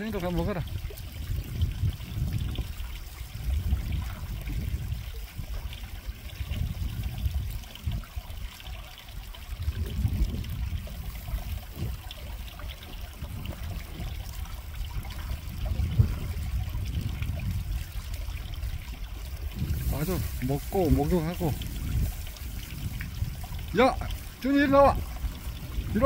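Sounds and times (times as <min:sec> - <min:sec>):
dog lapping muddy water: 0:00.0 - 0:26.0
low uneven rumble: 0:00.0 - 0:26.0.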